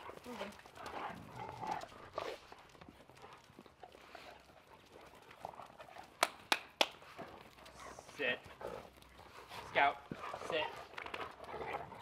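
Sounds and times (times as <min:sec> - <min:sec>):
dog claws tapping on concrete: 0:00.1 - 0:07.8, 0:09.9 - 0:12.0.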